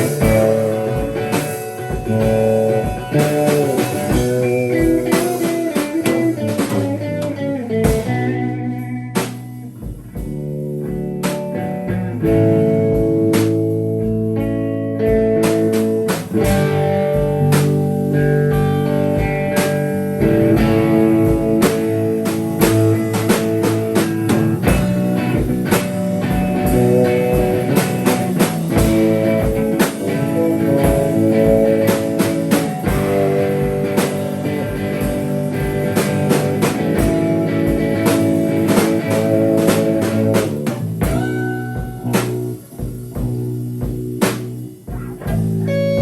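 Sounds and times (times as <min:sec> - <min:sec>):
guitar sustained chords: 0:00.0 - 0:42.9, 0:44.9 - 0:46.0
drum kit steady beat: 0:00.0 - 0:46.0.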